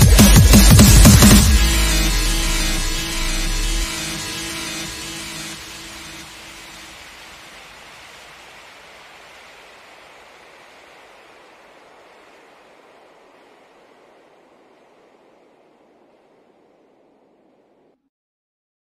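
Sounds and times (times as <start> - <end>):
steady rushing noise: 0.0 - 17.9.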